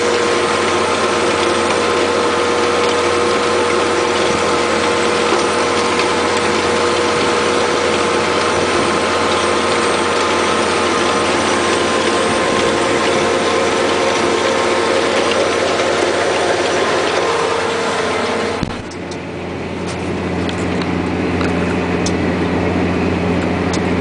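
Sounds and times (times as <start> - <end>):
machinery whine and clatter: 0.0 - 24.0
tractor diesel engine under load: 0.0 - 24.0.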